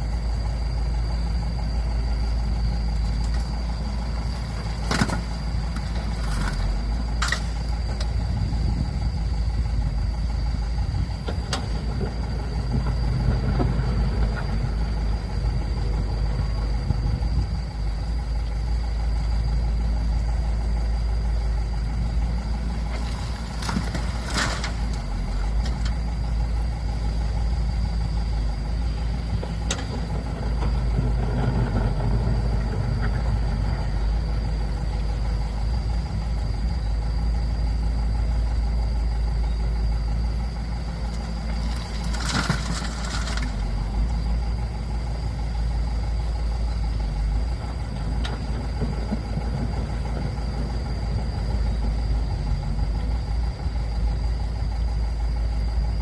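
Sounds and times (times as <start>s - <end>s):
diesel engines rumbling: 0.0s - 56.0s.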